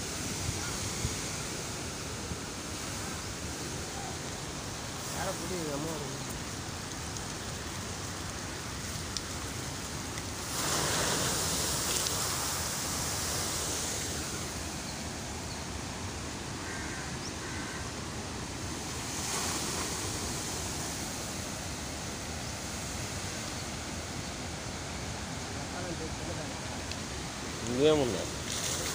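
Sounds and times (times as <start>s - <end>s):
floodwater rushing: 0.0s - 28.9s.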